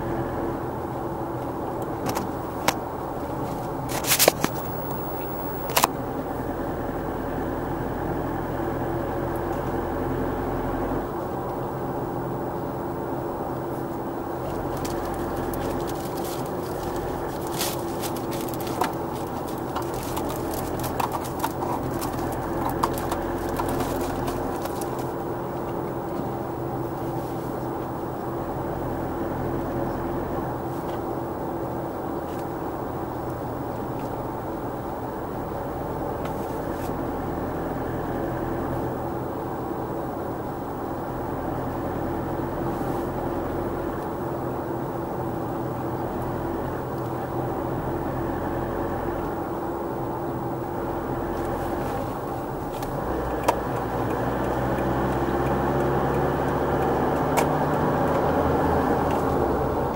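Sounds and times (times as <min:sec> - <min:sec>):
car cruising on highway: 0:00.0 - 0:59.9.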